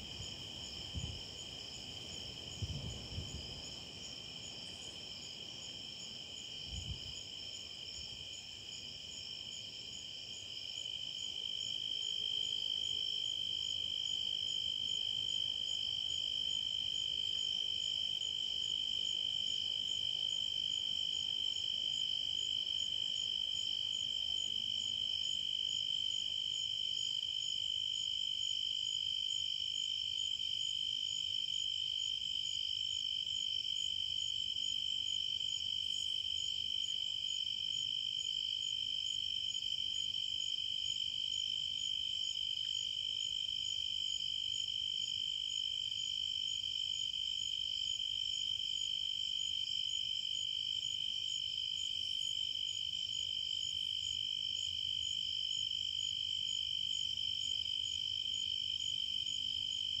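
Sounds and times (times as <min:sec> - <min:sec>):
faint pulsing cricket chirp: 0:00.0 - 1:00.0.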